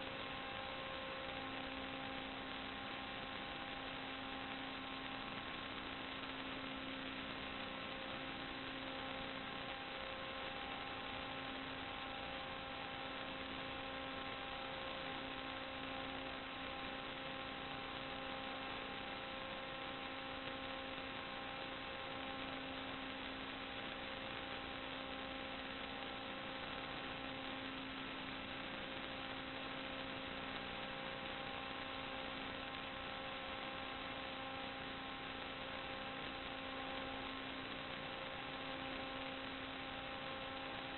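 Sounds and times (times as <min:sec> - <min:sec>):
electrical hum with hiss: 0:00.0 - 0:40.9.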